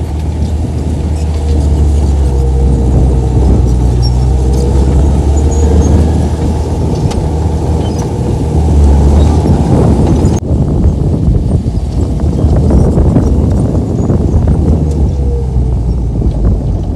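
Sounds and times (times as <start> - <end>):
bulldozer diesel engine running: 0.0 - 16.9.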